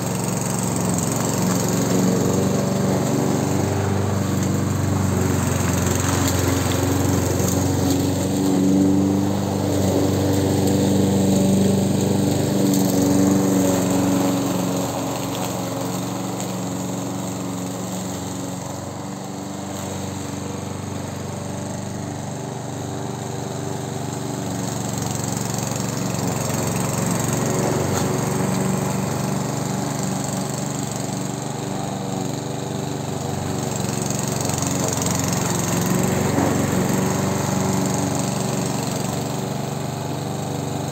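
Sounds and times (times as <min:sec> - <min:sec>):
lawn mower running: 0:00.0 - 0:40.9.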